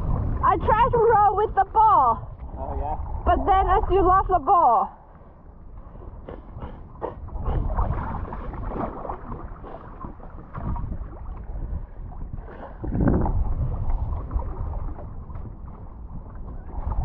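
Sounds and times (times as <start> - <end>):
water splashing around kayak: 0.0 - 17.0
wind rumble on microphone: 0.0 - 17.0.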